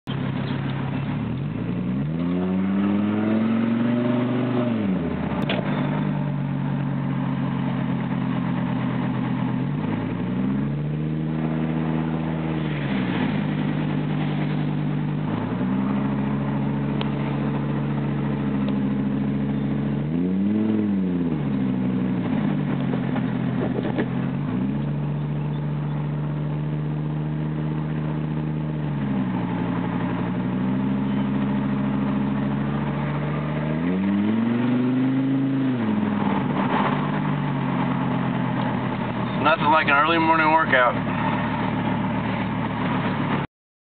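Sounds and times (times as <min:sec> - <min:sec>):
straight-piped car engine revving: 0:00.1 - 0:43.5.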